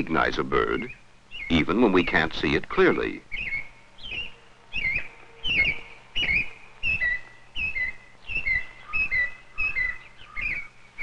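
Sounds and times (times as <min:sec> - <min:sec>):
faint low hum: 0:00.0 - 0:11.0
robin singing whistled phrases: 0:00.1 - 0:11.0.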